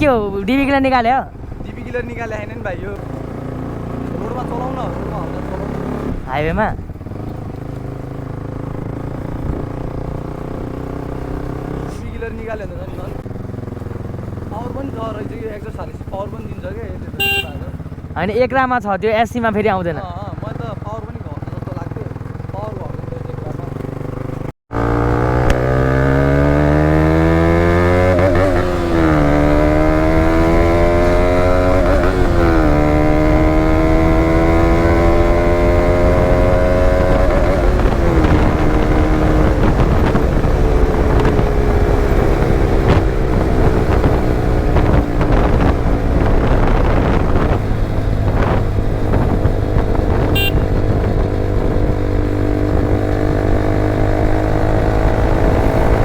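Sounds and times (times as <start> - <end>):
motorcycle engine accelerating: 0.0 - 18.4, 19.4 - 56.0.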